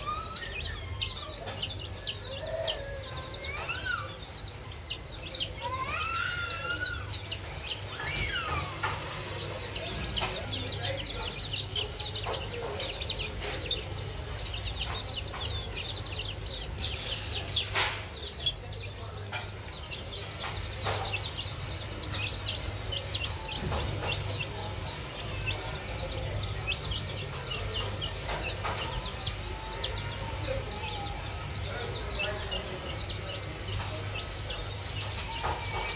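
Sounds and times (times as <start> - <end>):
baby chicks peeping: 0.0 - 35.9.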